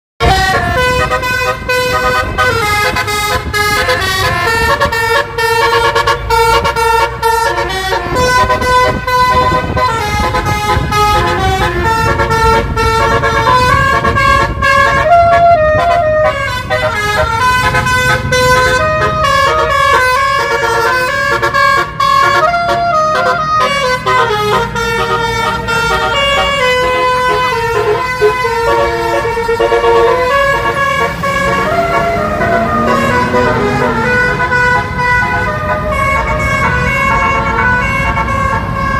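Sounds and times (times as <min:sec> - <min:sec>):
musical air horns playing a tune: 0:00.2 - 0:38.9.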